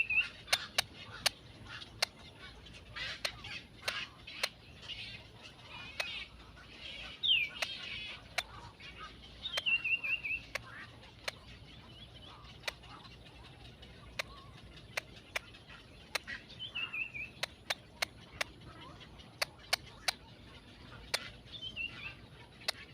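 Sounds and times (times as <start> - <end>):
sharp ticking clicks: 0.0 - 22.9
small bird chirping: 0.0 - 22.9.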